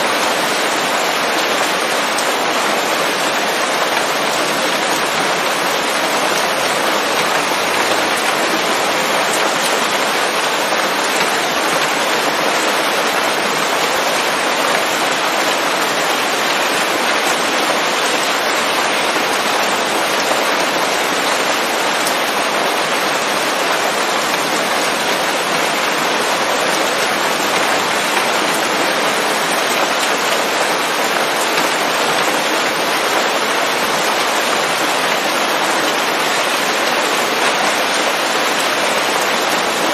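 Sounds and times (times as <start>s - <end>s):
heavy rain falling on leaves: 0.0s - 39.9s.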